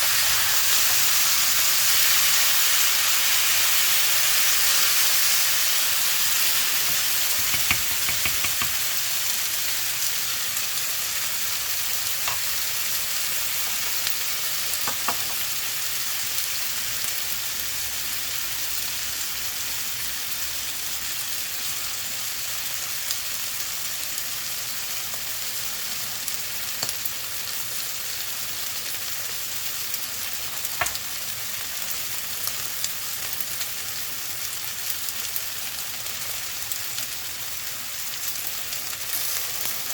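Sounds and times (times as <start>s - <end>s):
fried rice sizzling in a pan: 0.0s - 39.9s.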